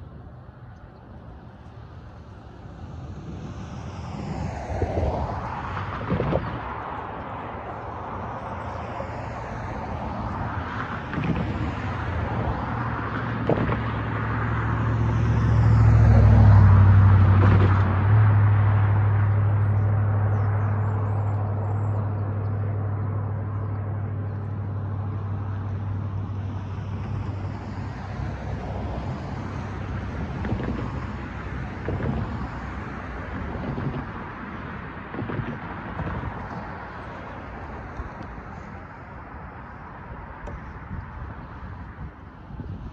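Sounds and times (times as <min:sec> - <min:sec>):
vehicle engine hum: 0:00.0 - 0:42.9.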